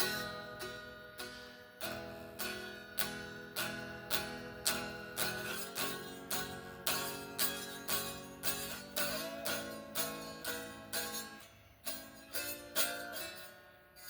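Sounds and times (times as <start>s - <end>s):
guitar strummed: 0.0s - 14.0s.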